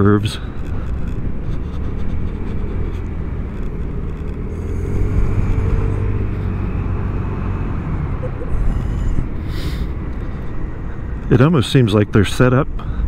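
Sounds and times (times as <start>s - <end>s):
wind noise: 0.5s - 11.3s.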